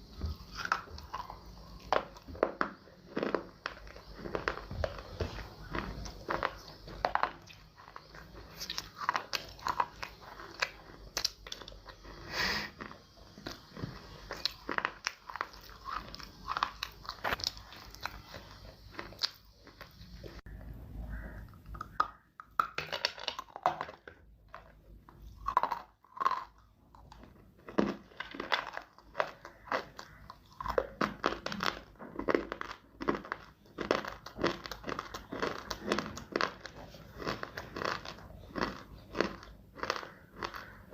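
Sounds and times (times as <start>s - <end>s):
chewing crunchy clay: 0.0s - 20.5s, 21.1s - 40.9s.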